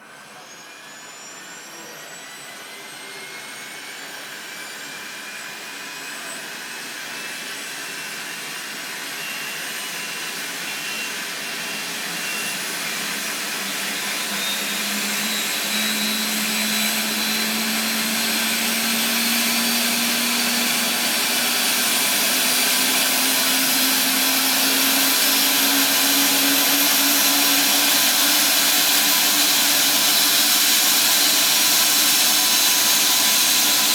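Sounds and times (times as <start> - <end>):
turbine whine rising in pitch: 0.0 - 33.9.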